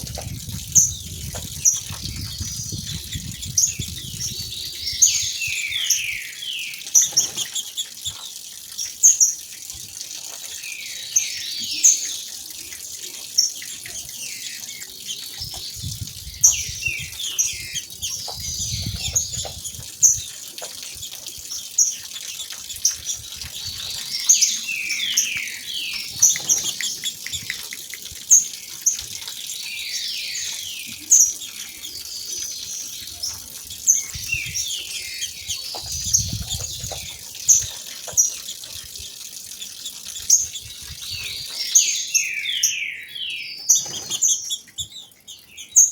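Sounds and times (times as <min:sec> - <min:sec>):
birds calling: 0:00.0 - 0:45.9.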